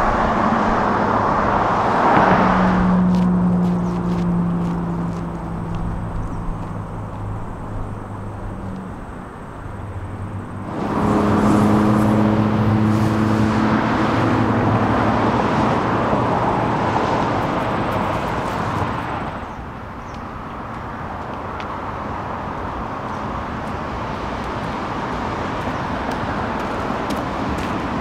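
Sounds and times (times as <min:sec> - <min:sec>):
vehicle passing close by: 0:00.0 - 0:19.7, 0:20.4 - 0:28.0.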